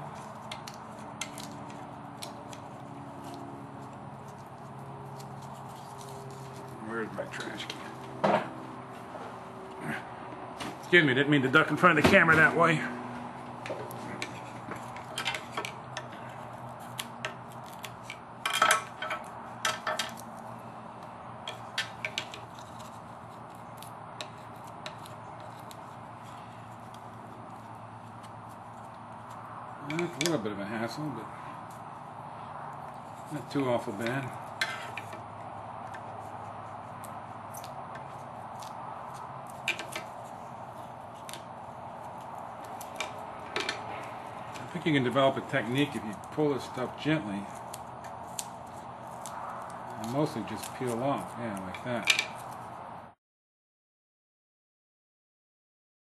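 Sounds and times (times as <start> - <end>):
tape peeling off wood: 0.0 - 8.6, 13.2 - 30.5, 31.6 - 51.6
steady background hum: 0.0 - 53.1.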